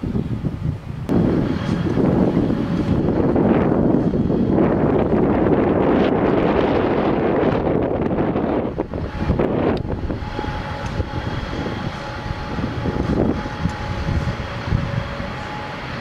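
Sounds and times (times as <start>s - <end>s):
faint steady whine: 0.0s - 16.0s
wind buffeting microphone: 0.0s - 16.0s.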